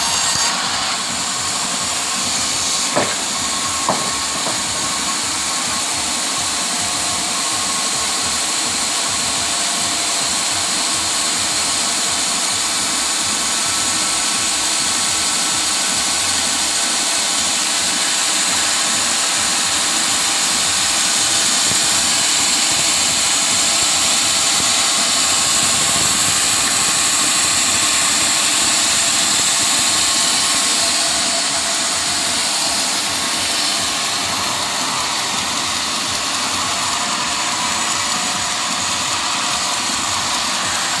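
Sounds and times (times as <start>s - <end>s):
high-pitched saw noise: 0.0s - 41.0s
sawmill engine running: 0.0s - 41.0s.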